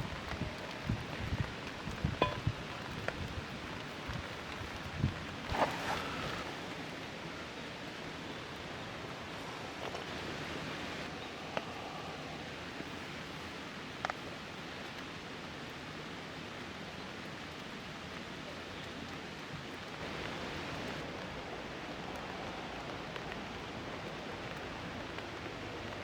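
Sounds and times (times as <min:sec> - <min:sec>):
rain pattering on a tarp: 0:00.0 - 0:26.0.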